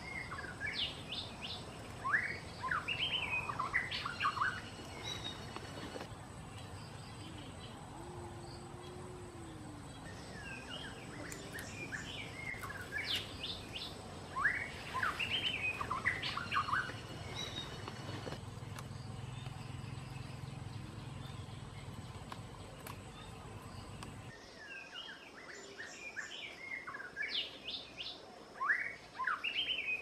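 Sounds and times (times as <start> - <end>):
birds chirping: 0.0 - 30.0
outdoor background hiss: 0.0 - 30.0.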